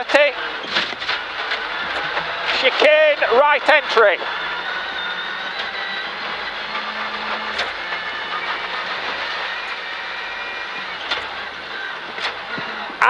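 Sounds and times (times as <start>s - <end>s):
car engine at speed: 0.0s - 13.0s
tyre road noise: 0.0s - 13.0s.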